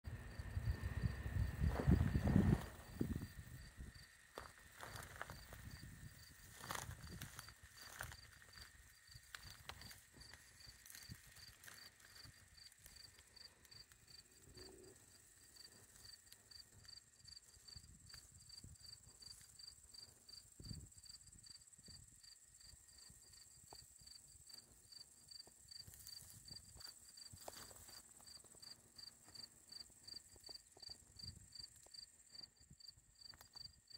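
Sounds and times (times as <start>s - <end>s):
cricket chirping: 0.1s - 33.9s
high insect trill: 0.1s - 33.9s.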